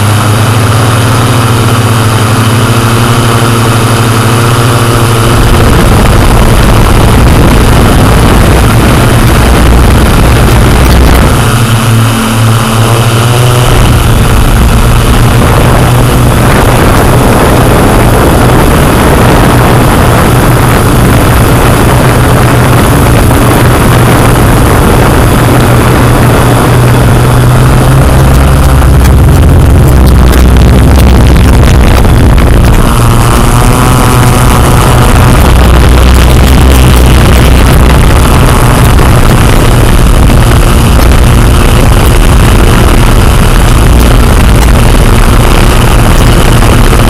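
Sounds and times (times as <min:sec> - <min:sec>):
drone propellers whirring: 0:00.0 - 0:47.0.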